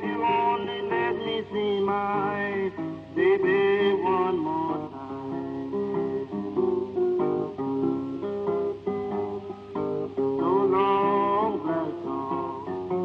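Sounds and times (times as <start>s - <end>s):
fingerpicked acoustic blues guitar: 0.0s - 13.0s.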